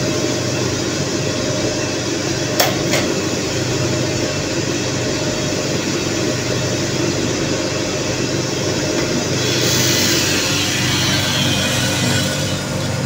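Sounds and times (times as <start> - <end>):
roaster motor and fan hum: 0.0 - 13.0.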